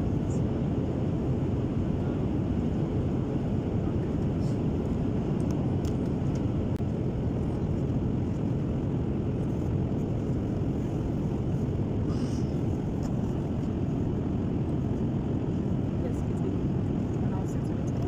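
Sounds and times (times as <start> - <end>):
airplane cabin low rushing noise: 0.0 - 18.0.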